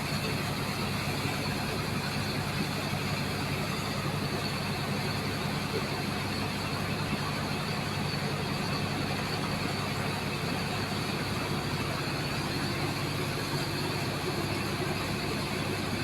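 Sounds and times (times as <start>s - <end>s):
engine-like drone: 0.0s - 16.0s.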